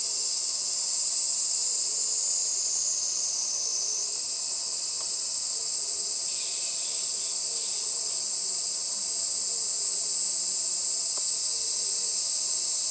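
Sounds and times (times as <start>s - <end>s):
cicadas chorus: 0.0s - 12.9s.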